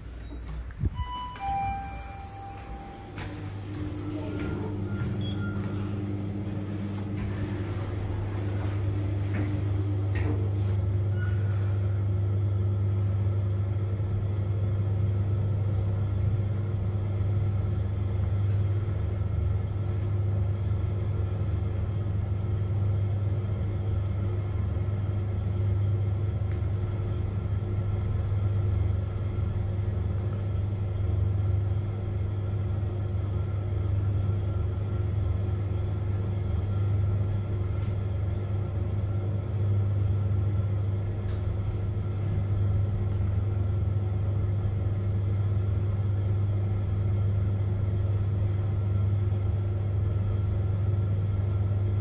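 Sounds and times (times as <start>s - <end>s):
elevator ride rumble: 0.0s - 52.0s.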